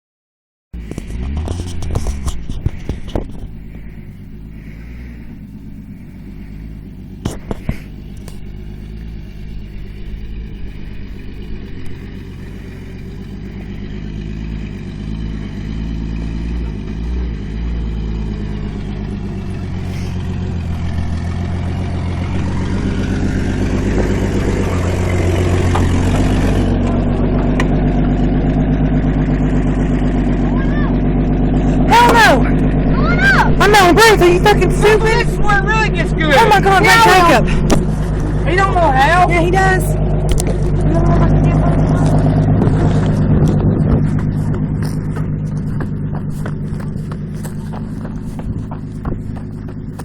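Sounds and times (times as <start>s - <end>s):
vehicle engine running under load: 0.8s - 50.0s.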